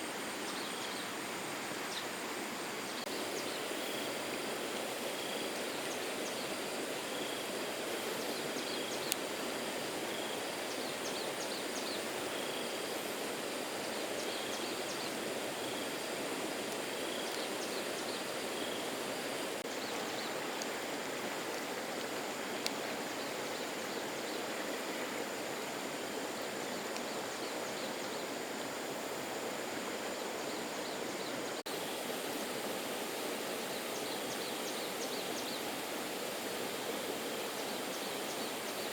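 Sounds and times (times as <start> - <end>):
water flowing: 0.0 - 38.9.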